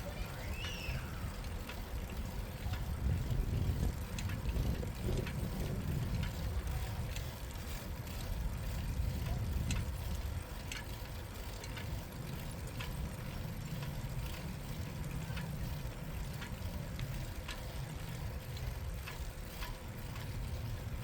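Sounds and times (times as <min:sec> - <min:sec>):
faint irregular ticks: 0:00.0 - 0:21.0
rumble of wind and tyres: 0:00.0 - 0:21.0.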